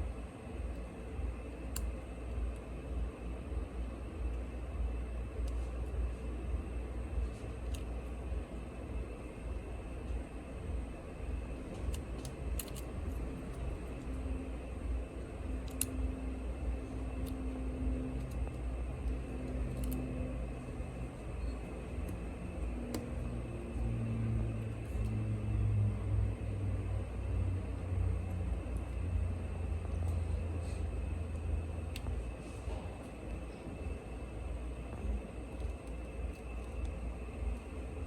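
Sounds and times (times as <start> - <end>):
low rumble and hum: 0.0 - 38.0.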